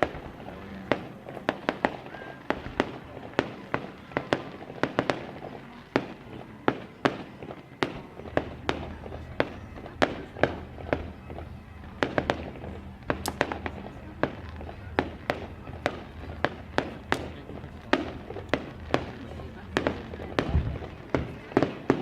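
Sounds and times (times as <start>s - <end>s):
fireworks banging: 0.0s - 22.0s.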